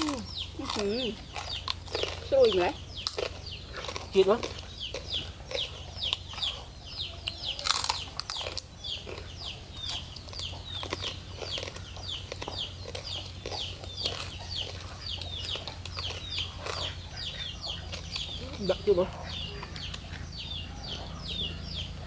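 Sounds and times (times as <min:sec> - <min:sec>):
people eating clicks and smacks: 0:00.0 - 0:21.7
birds peeping: 0:00.0 - 0:22.0.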